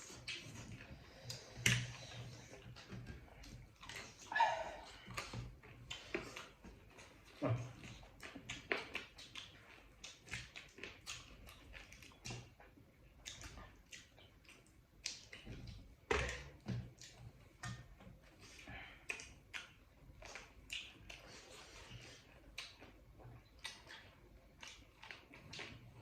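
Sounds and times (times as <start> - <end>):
food being chewed: 0.0 - 26.0.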